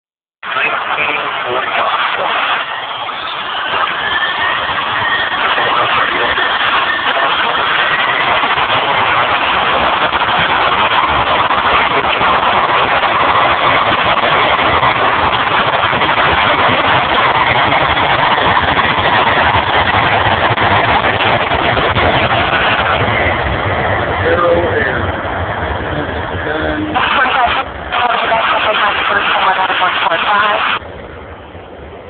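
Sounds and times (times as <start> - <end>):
jet airliner engines roaring: 0.4 - 32.0
faint gliding whine: 0.5 - 32.0.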